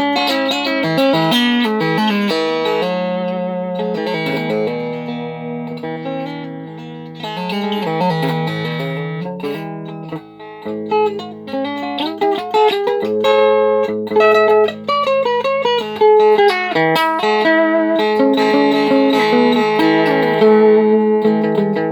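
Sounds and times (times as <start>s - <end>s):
plucked string melody: 0.0s - 21.9s.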